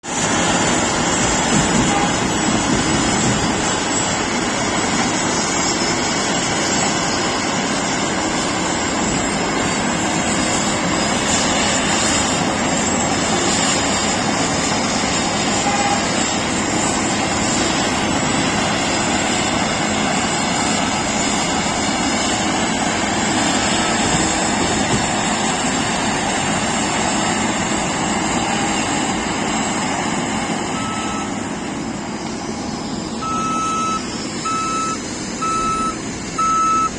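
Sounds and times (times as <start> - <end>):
heavy road machinery running: 0.0 - 36.9.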